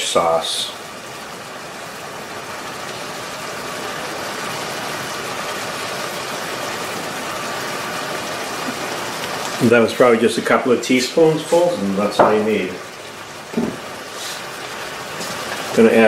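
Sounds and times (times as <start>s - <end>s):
pot simmering on gas stove: 0.0s - 16.0s.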